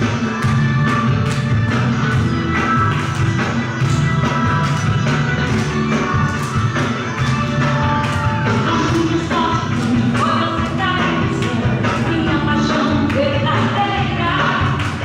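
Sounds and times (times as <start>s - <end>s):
upbeat pop music with guitar: 0.0s - 15.0s.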